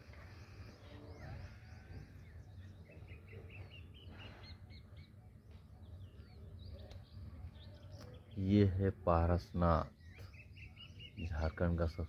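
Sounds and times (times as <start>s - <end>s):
birds chirping and whistling: 0.0s - 8.7s, 9.5s - 12.0s.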